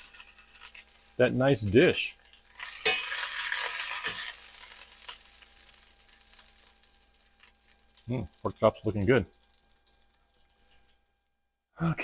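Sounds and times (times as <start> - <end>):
meat sizzling in a pan: 0.0 - 11.6.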